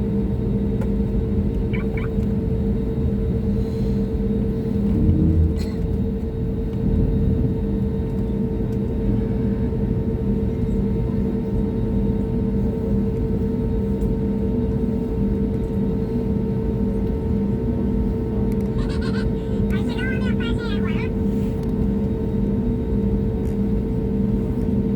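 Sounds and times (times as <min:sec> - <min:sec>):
airplane cabin engine rumble: 0:00.0 - 0:24.9.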